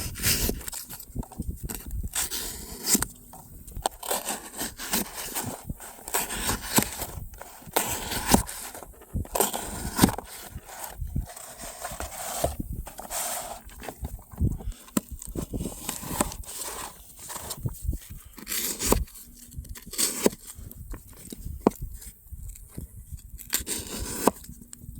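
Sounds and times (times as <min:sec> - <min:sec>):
knife cutting and scraping: 0:00.0 - 0:22.6, 0:23.2 - 0:24.6.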